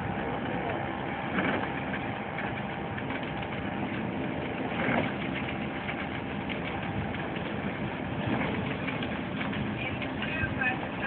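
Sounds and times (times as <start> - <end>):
motor yacht engine drone: 0.0 - 11.0.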